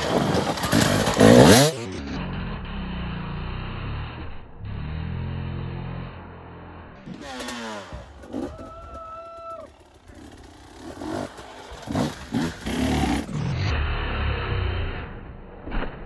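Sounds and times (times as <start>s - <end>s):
dirt bike engine revving: 0.0s - 8.9s, 9.7s - 15.2s.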